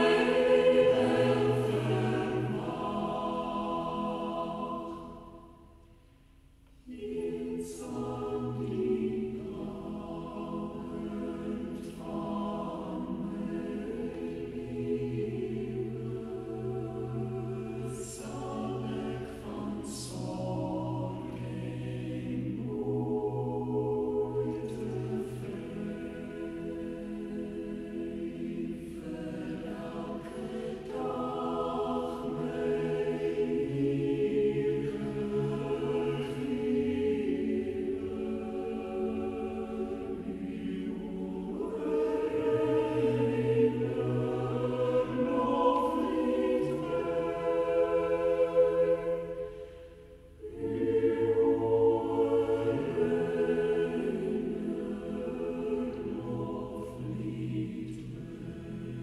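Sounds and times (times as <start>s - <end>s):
choir singing slow chords: 0.0s - 59.0s.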